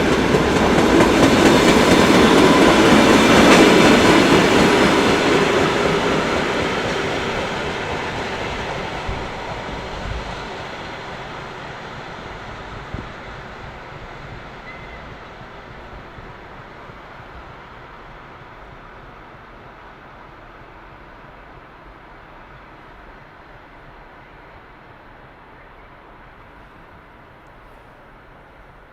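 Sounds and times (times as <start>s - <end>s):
freight train rolling past: 0.0s - 28.9s.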